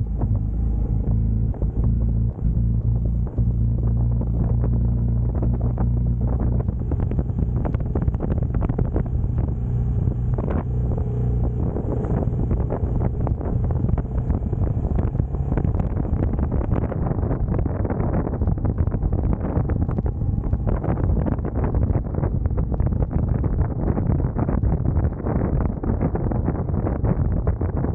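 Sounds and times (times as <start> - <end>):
motorcycle engine running: 0.0 - 26.0
wind buffeting microphone: 0.0 - 27.9.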